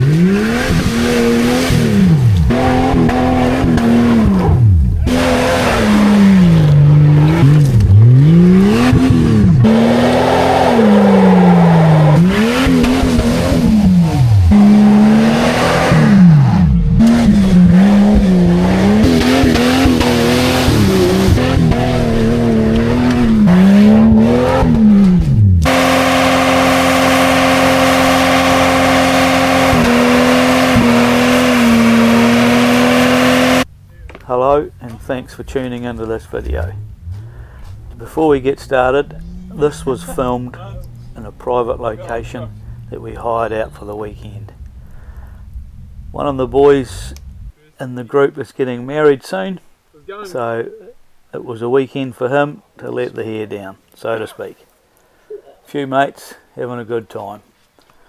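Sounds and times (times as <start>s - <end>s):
car engine revving: 0.0s - 47.6s.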